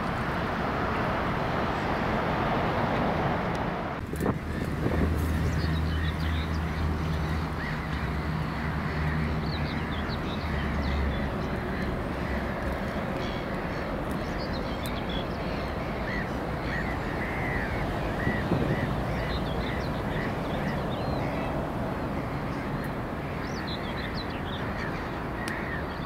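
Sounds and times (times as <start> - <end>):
small birds chirping: 4.3 - 26.0.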